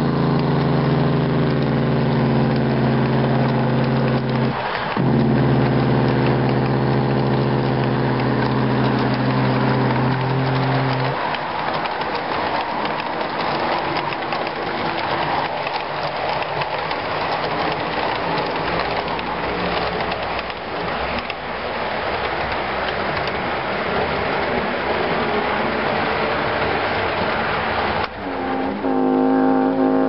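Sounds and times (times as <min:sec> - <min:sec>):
model train wheels rattling on rail: 0:00.0 - 0:29.1
wheels clicking over rail joints: 0:00.0 - 0:30.0.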